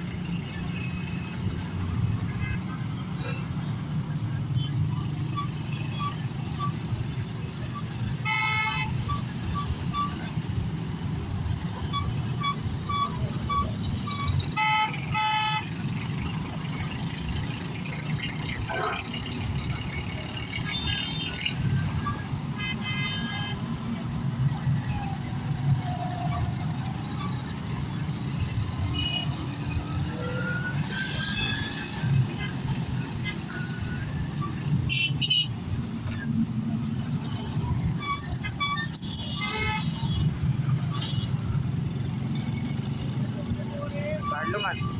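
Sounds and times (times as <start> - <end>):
road traffic rumble: 0.0 - 44.9.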